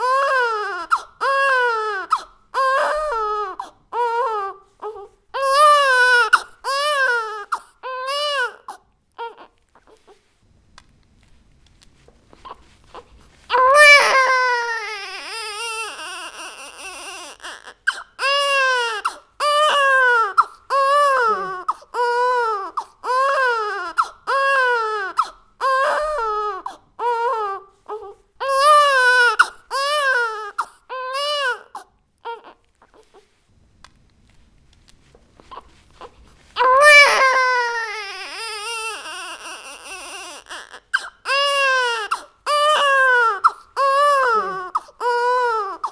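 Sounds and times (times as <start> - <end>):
baby crying: 0.0 - 10.1, 13.5 - 33.2, 36.6 - 45.9.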